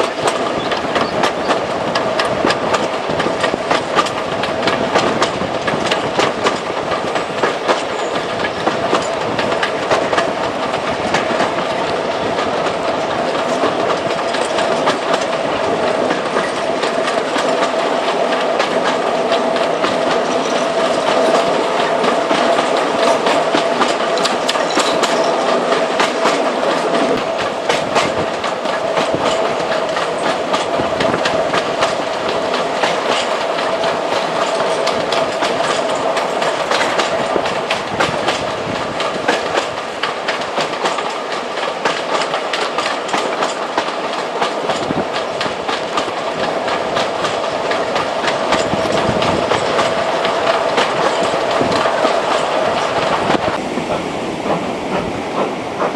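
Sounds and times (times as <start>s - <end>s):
train wheels clacking over rail joints: 0.0s - 55.9s.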